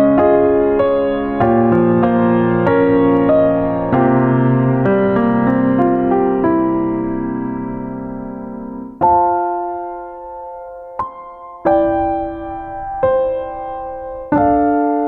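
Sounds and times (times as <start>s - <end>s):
slow soft piano chords: 0.0s - 15.0s.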